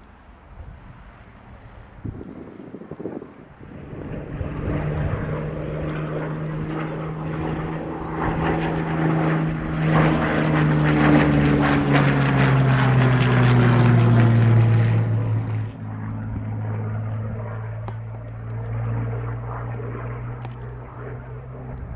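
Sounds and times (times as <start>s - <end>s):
propeller aircraft engine drone: 0.0s - 21.9s.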